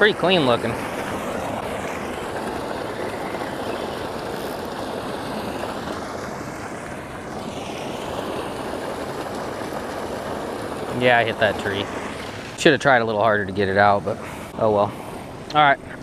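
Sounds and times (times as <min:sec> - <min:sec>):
water splashing into pond: 0:00.0 - 0:13.0
water gushing from pipe: 0:00.0 - 0:16.0.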